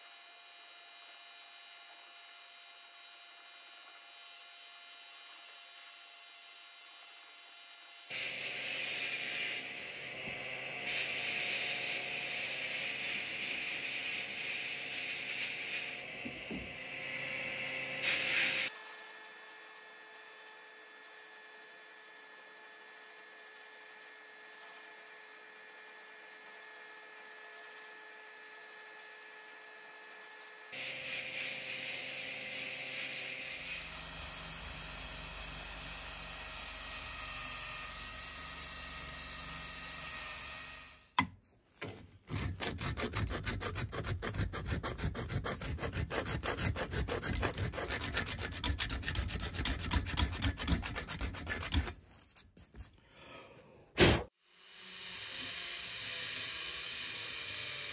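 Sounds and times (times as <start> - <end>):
drill spinning wire wheel brush: 0.0 - 41.2, 45.0 - 52.2, 54.4 - 57.9.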